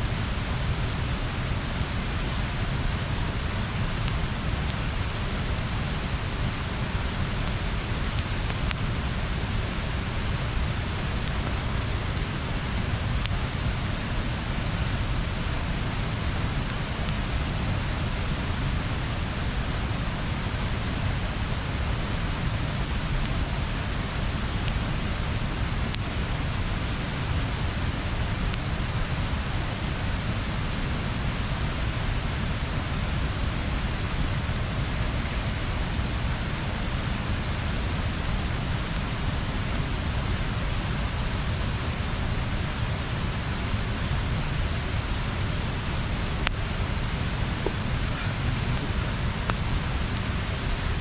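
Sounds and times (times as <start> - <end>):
bonfire burning with pops: 0.1 - 51.0.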